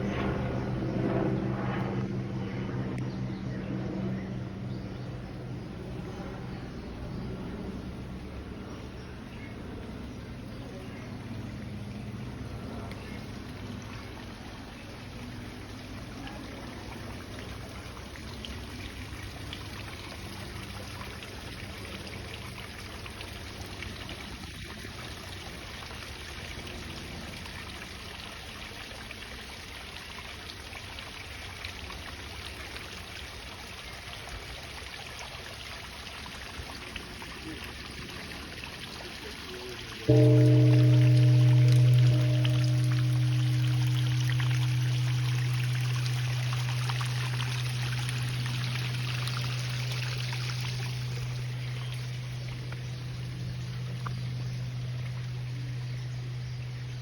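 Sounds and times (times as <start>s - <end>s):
water trickling and splashing: 5.9s - 57.0s.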